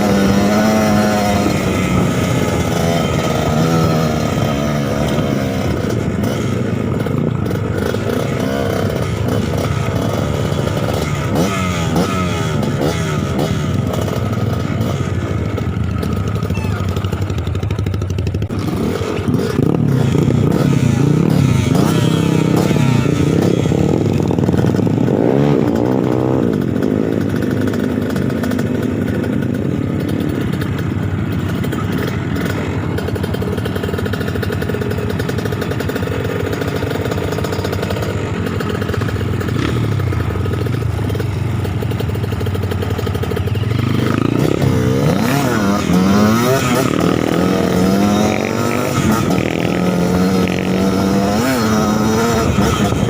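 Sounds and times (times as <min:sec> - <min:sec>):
two-stroke motorbike engine revving: 0:00.0 - 0:53.0.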